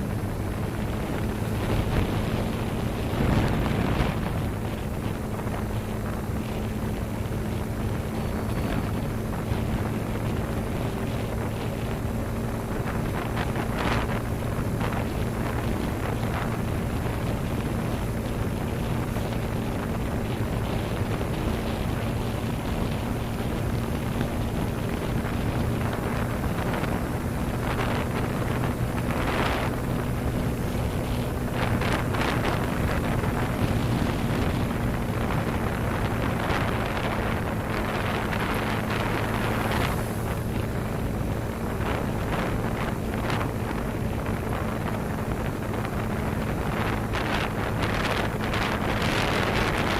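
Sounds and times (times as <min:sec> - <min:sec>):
motorcycle engine humming: 0:00.0 - 0:49.9
wind rushing over microphone: 0:00.0 - 0:49.9.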